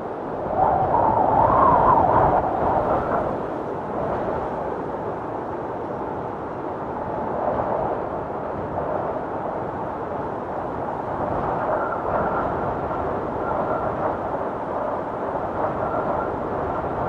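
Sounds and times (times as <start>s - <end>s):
howling blizzard wind: 0.0s - 17.0s.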